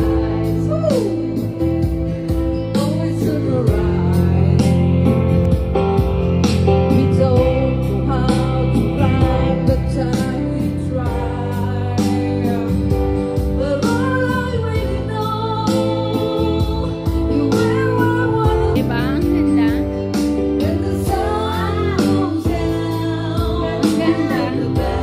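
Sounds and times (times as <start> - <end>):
person singing into a microphone: 0.0 - 5.4, 6.8 - 25.0
backing track with steady beat: 0.0 - 25.0.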